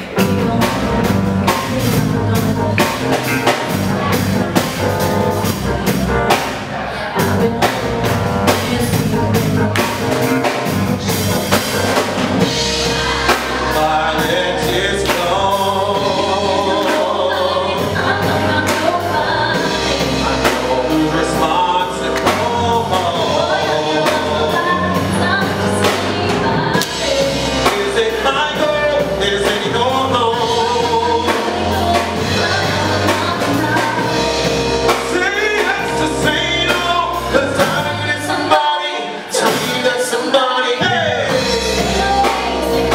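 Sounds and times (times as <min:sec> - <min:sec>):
electric bass: 0:00.0 - 0:38.7, 0:40.8 - 0:42.9
backing vocals: 0:00.0 - 0:42.9
drums: 0:00.0 - 0:42.9
keyboard: 0:00.0 - 0:42.9
woman singing lead: 0:00.0 - 0:42.9.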